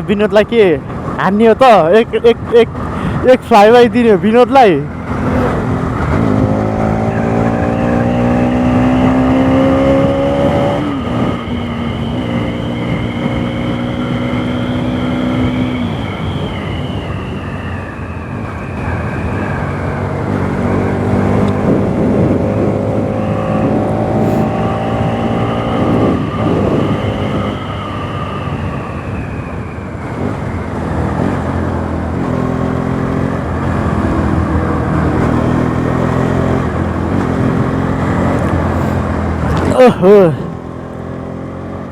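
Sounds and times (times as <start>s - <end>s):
motorcycle engine accelerating: 4.9s - 41.9s.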